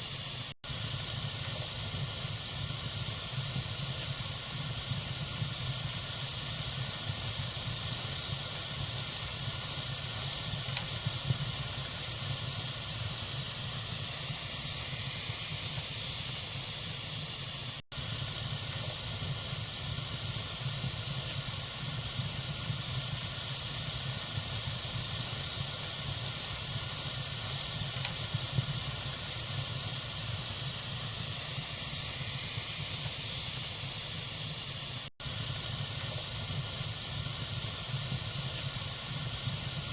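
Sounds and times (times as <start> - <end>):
wood fire hissing and crackling: 0.0 - 39.9.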